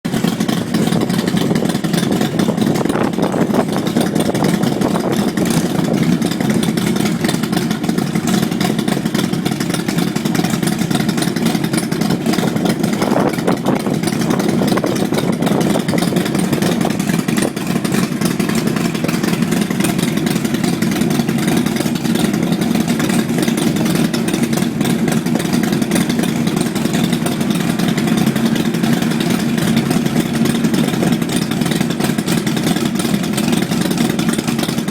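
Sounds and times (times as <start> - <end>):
motorcycle engines rumbling: 0.1 - 34.9.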